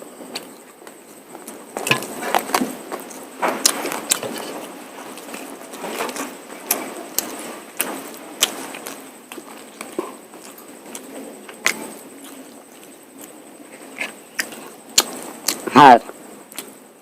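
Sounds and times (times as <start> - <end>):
chewing with wet smacks: 1.8 - 15.7.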